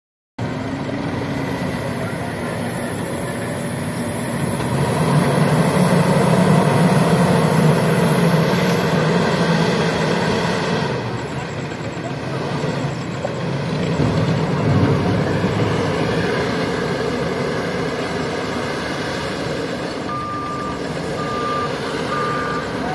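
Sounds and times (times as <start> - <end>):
diesel machinery engine running: 0.4 - 22.9.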